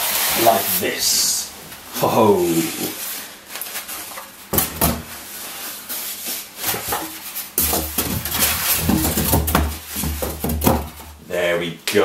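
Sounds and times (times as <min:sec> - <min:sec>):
foam packing pieces scraping: 0:00.0 - 0:01.4, 0:02.3 - 0:11.1.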